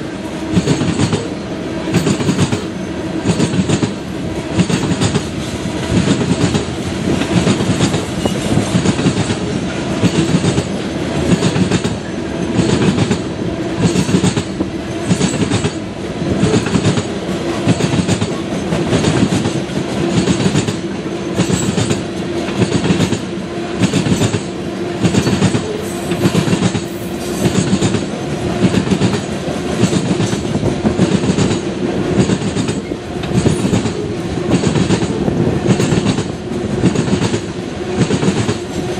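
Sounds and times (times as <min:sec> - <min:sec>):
train wheels clicking over rail joints: 0:00.2 - 0:38.9.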